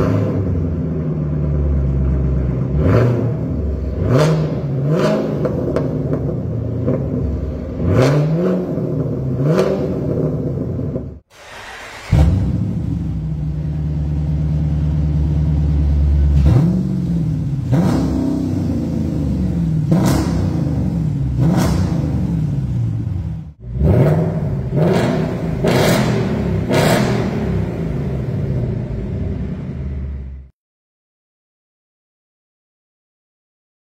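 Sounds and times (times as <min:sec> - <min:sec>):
car engine revving: 0:00.0 - 0:30.5
car engine idling: 0:00.4 - 0:07.8, 0:08.8 - 0:30.5.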